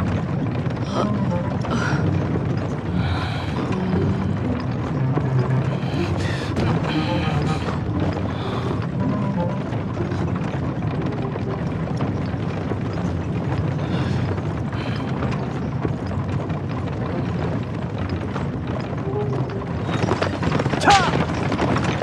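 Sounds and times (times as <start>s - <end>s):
carriage wheels rumbling and rattling: 0.0s - 22.0s.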